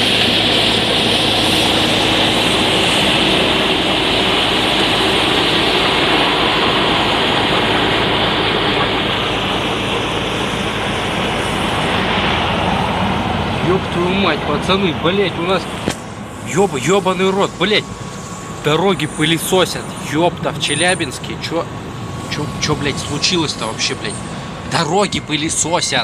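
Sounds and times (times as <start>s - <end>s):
vacuum sweeper truck fan rushing: 0.0s - 26.0s.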